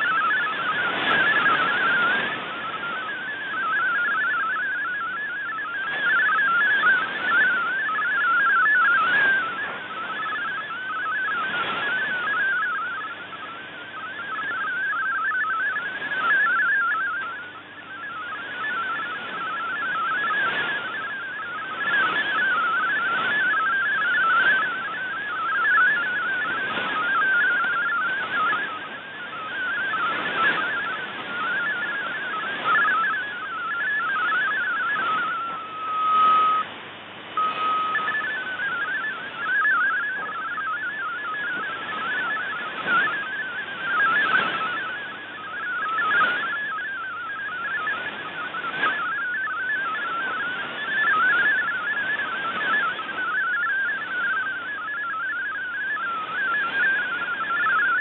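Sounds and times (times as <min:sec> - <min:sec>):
shortwave hiss and static: 0:00.0 - 0:58.0
steady tone: 0:00.0 - 0:58.0
warbling digital data tones: 0:00.0 - 0:58.0.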